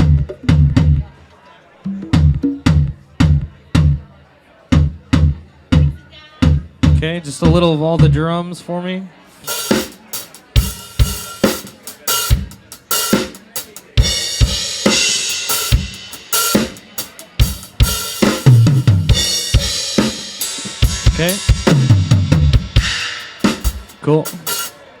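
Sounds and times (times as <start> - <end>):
drum kit playing groove: 0.0 - 1.1, 1.9 - 4.0, 4.7 - 8.2, 9.4 - 25.0.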